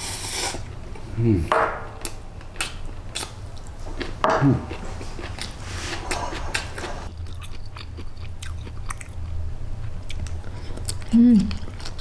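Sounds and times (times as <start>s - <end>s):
chewing and biting food: 2.0s - 12.0s.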